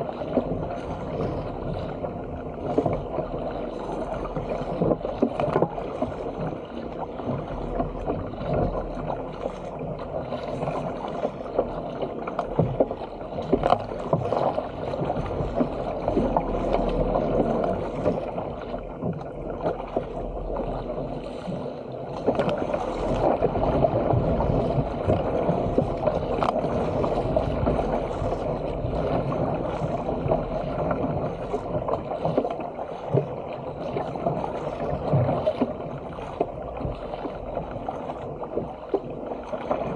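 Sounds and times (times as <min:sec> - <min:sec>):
paddle blades splashing: 0:00.0 - 0:39.9
water splashing along a hull: 0:00.0 - 0:39.9.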